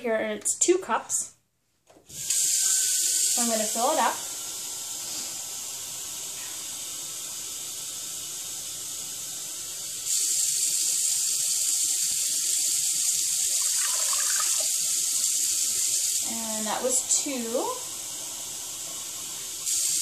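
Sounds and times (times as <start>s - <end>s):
water running from tap: 2.1s - 20.0s.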